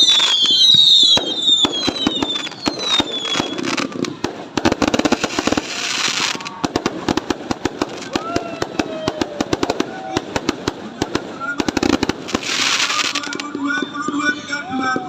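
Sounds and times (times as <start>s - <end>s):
fireworks popping and crackling: 0.0s - 15.0s
whistling firework shells: 0.0s - 15.0s.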